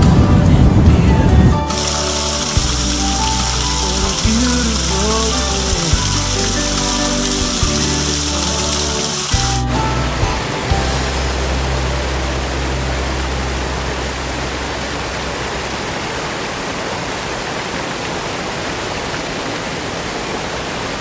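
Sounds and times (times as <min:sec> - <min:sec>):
waterfall rushing: 0:01.7 - 0:21.0.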